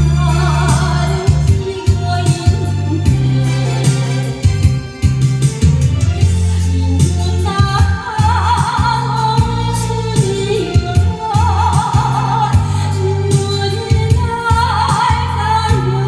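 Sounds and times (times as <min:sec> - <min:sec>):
woman singing with vibrato: 0:00.0 - 0:05.0, 0:06.5 - 0:16.0
backing track of bass and percussion: 0:00.0 - 0:16.0.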